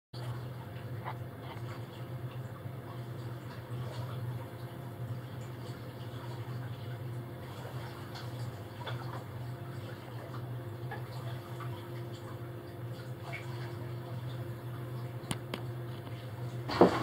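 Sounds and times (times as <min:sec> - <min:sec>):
steady low hum: 0:00.2 - 0:17.0
water lapping at hull: 0:00.2 - 0:17.0.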